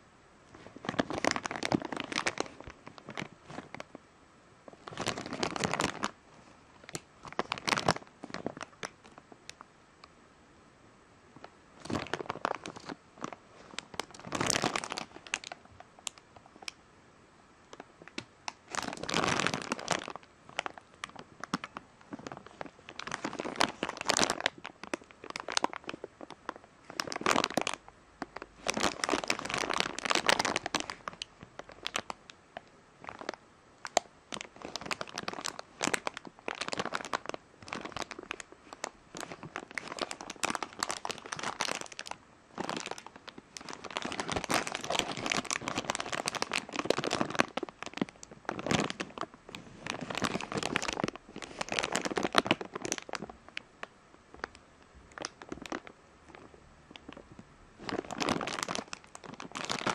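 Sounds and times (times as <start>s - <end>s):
plastic bag crinkling: 0.6s - 4.0s, 4.7s - 6.2s, 6.8s - 9.6s, 11.4s - 16.8s, 17.7s - 59.9s.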